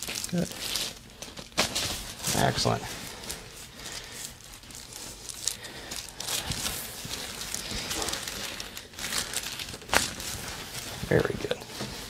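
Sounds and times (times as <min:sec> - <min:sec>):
rustling on treatment table: 0:00.0 - 0:12.0.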